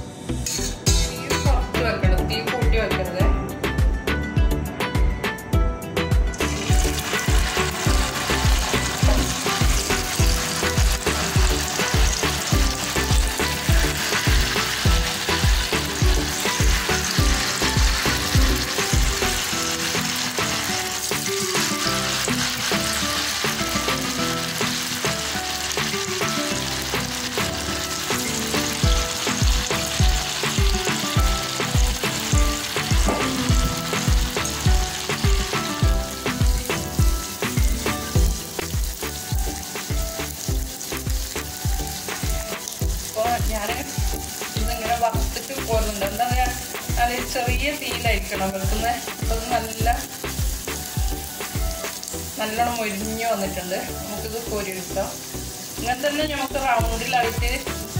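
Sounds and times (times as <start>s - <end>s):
background music with beat: 0.0s - 52.4s
food sizzling in oil: 5.9s - 57.9s.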